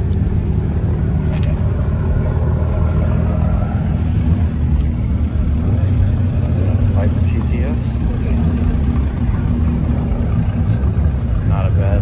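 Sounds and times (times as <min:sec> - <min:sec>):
sports car engines rumbling: 0:00.0 - 0:12.0.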